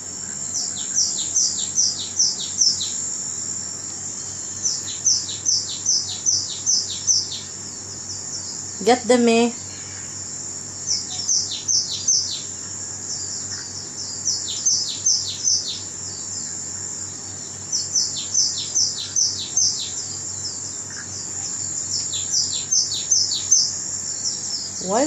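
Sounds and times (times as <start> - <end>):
small birds chirping: 0.0 - 25.0
steady high-pitched hiss: 0.0 - 25.0.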